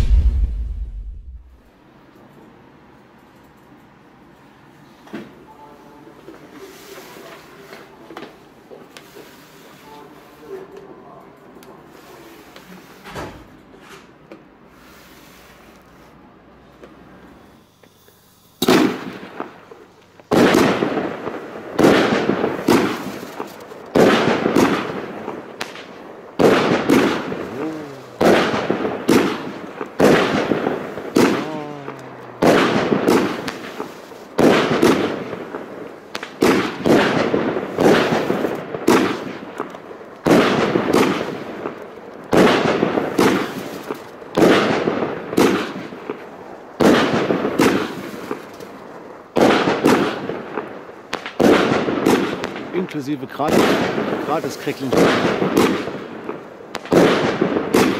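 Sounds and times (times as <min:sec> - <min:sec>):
firework bangs: 0:00.0 - 0:01.8, 0:12.3 - 0:57.9
firework crackle: 0:00.0 - 0:01.9, 0:05.0 - 0:57.9.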